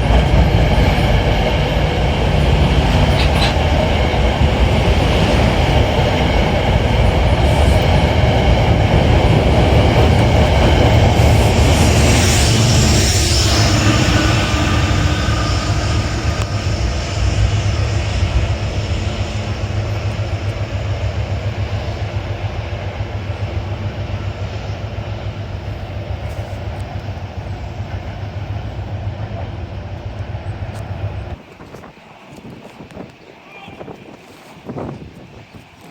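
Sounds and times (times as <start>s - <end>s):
train rumbling past: 0.0s - 35.8s
wind buffeting microphone: 0.0s - 35.9s.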